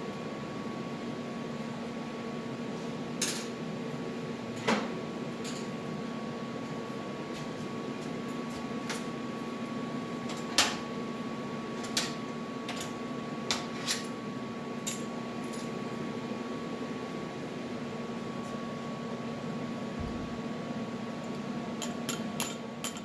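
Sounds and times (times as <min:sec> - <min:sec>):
electrical machine hum: 0:00.0 - 0:23.0.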